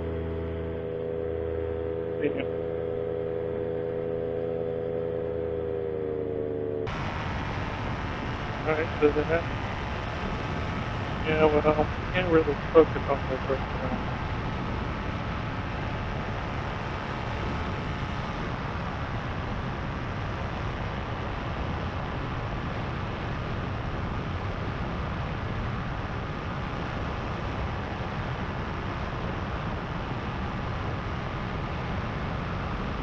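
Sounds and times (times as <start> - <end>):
paramotor engine and propeller drone: 0.0 - 33.0.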